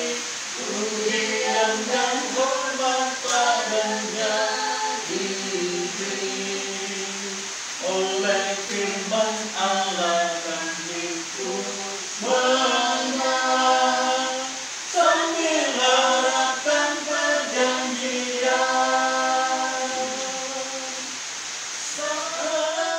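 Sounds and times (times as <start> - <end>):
choir singing in harmony: 0.0 - 21.2.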